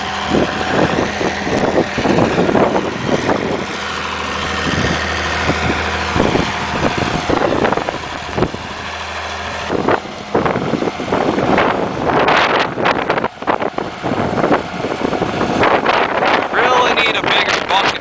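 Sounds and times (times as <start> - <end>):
engine running at low revs: 0.0 - 18.0
wind buffeting microphone: 0.0 - 18.0.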